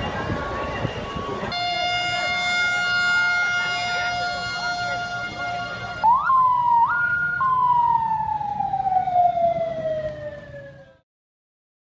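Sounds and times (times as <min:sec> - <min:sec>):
low street rumble: 0:00.0 - 0:11.0
ambulance siren wailing: 0:01.2 - 0:11.0.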